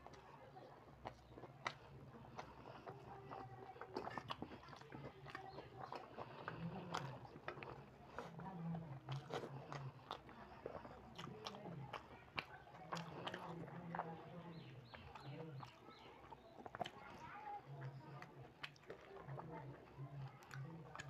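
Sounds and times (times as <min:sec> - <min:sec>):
chewing and lip smacking: 0:00.0 - 0:21.0.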